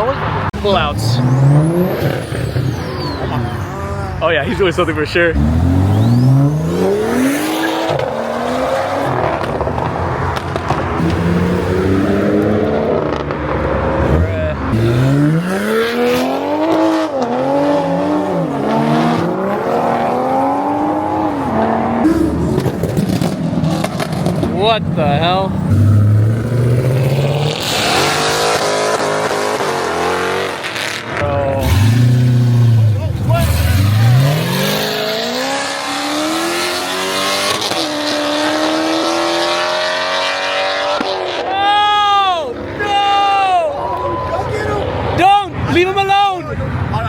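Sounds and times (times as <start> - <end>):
car engine revving: 0.0 - 41.6.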